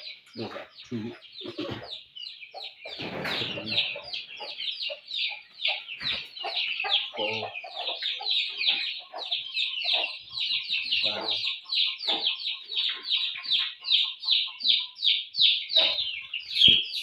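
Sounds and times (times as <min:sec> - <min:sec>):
chicken clucks: 0:00.0 - 0:17.0
young chickens peeping: 0:00.0 - 0:17.0.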